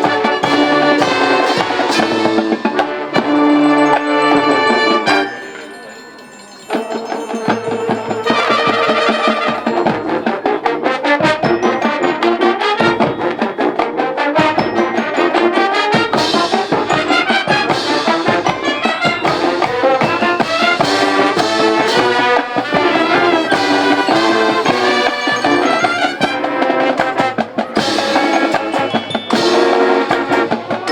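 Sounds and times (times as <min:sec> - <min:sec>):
marching band brass and drums: 0:00.0 - 0:30.9.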